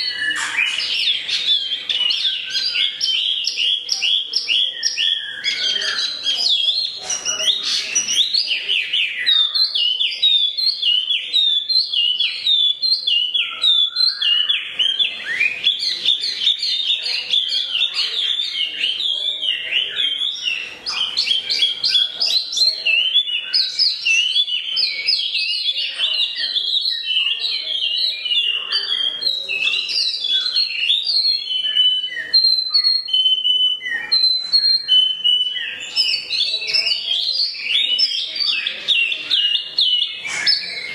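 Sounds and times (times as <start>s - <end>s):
songbird singing chirps and trills: 0.0s - 40.9s.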